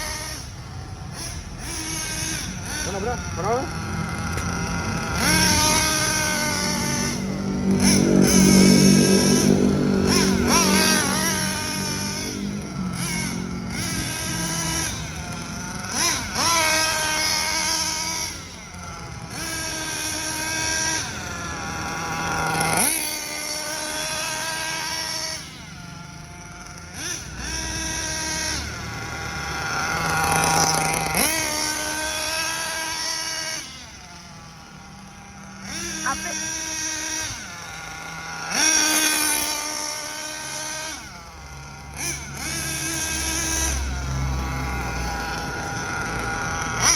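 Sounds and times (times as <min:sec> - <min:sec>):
rc car engine whining: 0:00.0 - 0:46.9.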